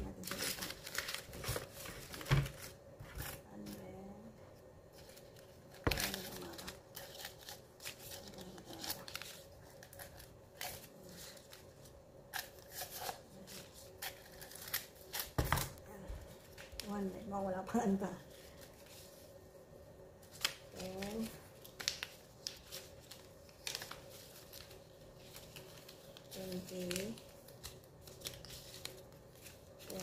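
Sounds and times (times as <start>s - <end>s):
banknotes rustling and crinkling: 0.0s - 3.8s, 4.9s - 17.1s, 20.2s - 30.0s.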